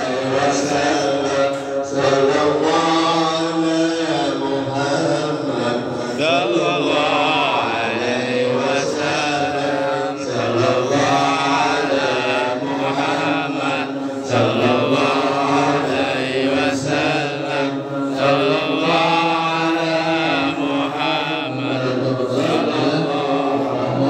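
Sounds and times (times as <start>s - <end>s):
lead voice singing over loudspeakers: 0.0s - 24.0s
men chanting: 0.0s - 24.0s.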